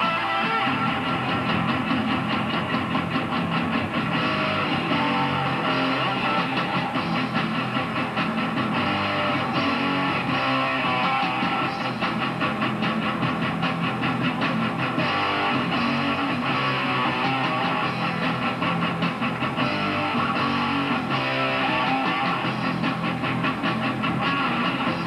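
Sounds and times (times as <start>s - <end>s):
metal band playing live: 0.0s - 25.0s.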